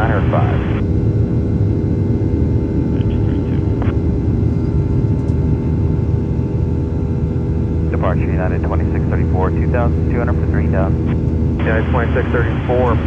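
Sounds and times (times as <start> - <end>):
constant humming tones: 0.0 - 13.0
jet engine and airflow rumble: 0.0 - 13.0.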